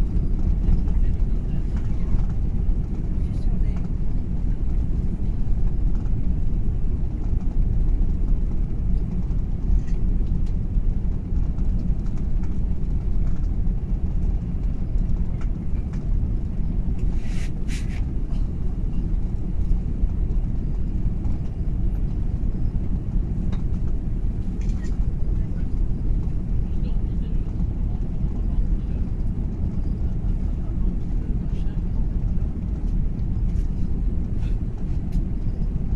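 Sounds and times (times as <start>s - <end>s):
aircraft cabin rumble: 0.0s - 35.9s.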